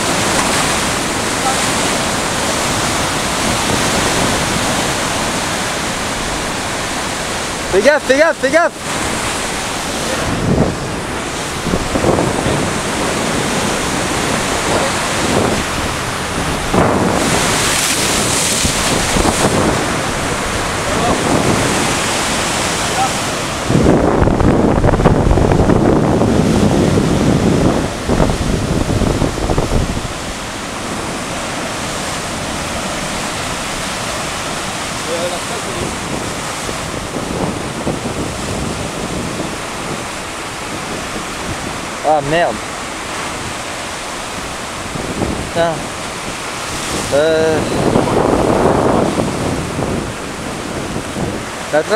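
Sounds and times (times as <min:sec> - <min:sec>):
surf breaking over rocks: 0:00.0 - 0:51.9
wind on microphone: 0:00.0 - 0:51.9.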